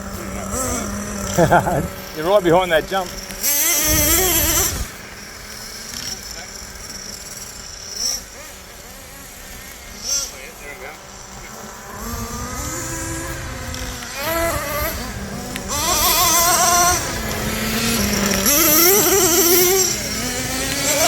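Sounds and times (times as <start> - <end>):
small engines revving: 0.0 - 21.0.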